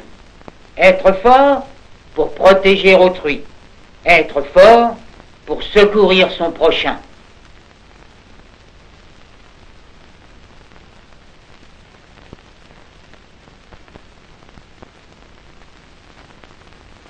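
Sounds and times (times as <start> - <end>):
film soundtrack hiss: 0.0 - 17.0.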